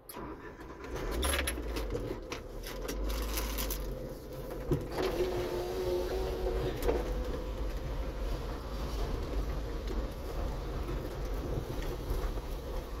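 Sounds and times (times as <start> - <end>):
car driving over paving: 0.9 - 13.0.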